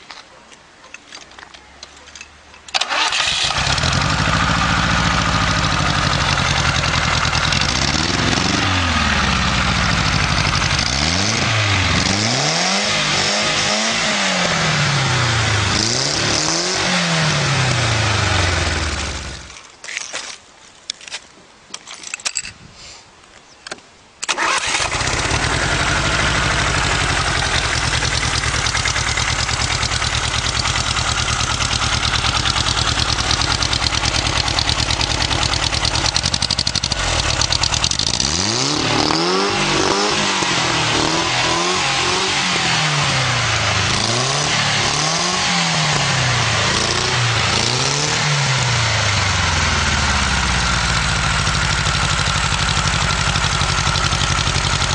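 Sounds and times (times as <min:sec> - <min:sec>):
motorcycle engine idling and revving: 0:02.8 - 0:19.6, 0:24.4 - 0:54.9.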